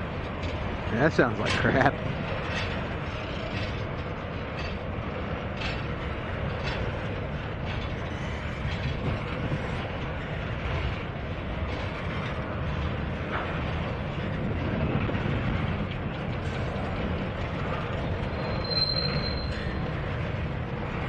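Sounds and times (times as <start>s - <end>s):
steel wheels rumbling on rail: 0.0s - 21.0s
wheels clicking over rail joints: 0.0s - 21.0s.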